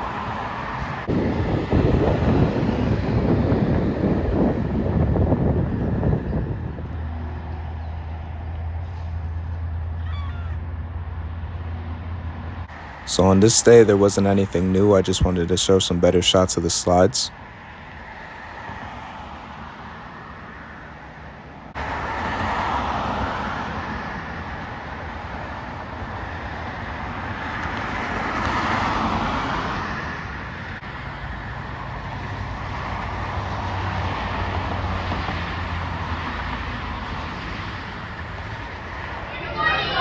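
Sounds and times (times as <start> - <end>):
distant road traffic rumble: 0.0 - 40.0.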